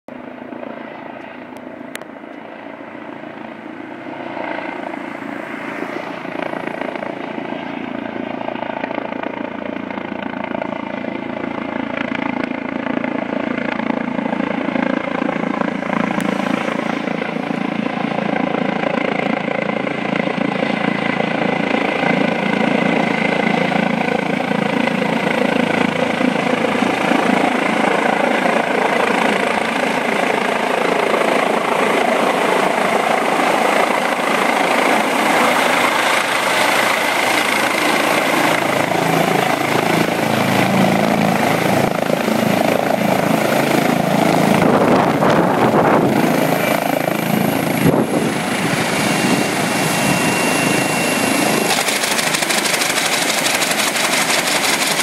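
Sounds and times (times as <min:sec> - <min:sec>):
helicopter rotor and turbine: 0:00.1 - 0:55.0.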